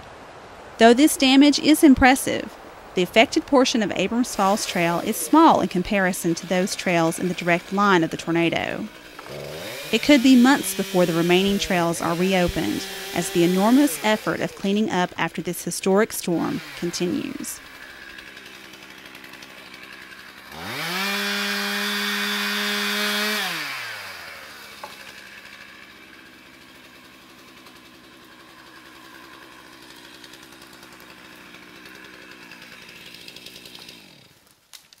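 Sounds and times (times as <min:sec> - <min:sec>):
chainsaw idling and revving: 0:03.0 - 0:34.7.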